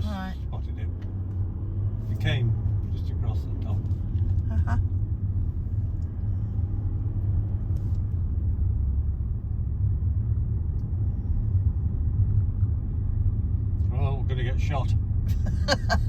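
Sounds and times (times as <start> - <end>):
road and engine rumble in car: 0.0 - 16.0.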